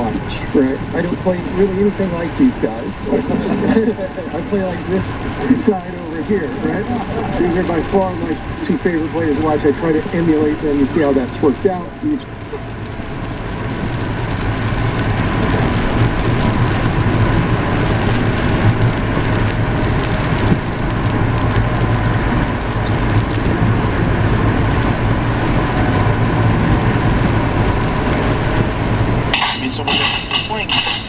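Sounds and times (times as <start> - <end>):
car engine and tyres on wet road: 0.0 - 31.0.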